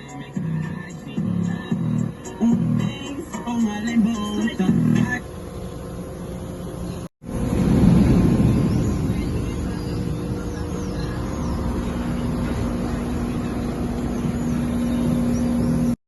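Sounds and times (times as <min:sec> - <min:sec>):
truck diesel engine running: 0:00.4 - 0:16.0.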